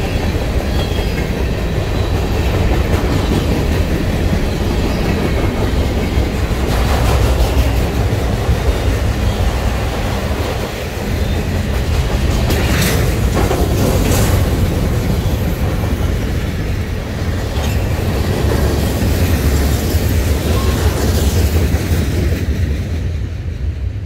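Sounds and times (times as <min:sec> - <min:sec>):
wheels clacking on rail joints: 0:00.0 - 0:23.3
freight train rumbling: 0:00.0 - 0:24.0.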